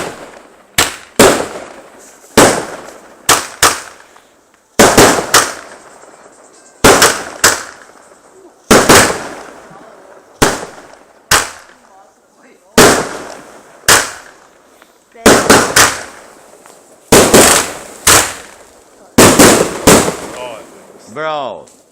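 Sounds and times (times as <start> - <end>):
firework bangs: 0.0 - 21.2.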